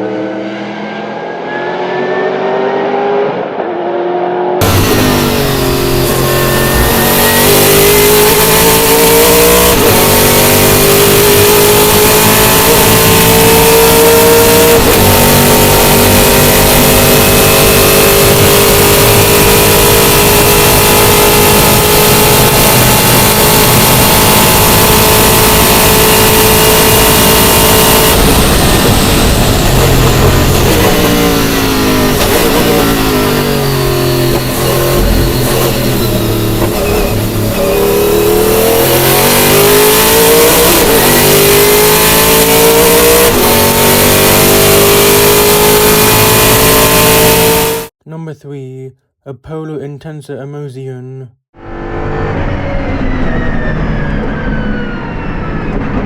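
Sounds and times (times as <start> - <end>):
race car engine at full power: 0.0 - 48.0, 51.5 - 56.0.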